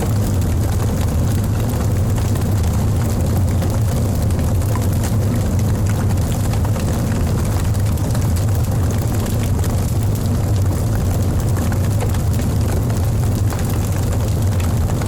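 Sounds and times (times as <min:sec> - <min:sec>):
fire rumbling in fireplace: 0:00.0 - 0:15.0
logs crackling and popping: 0:00.0 - 0:15.0.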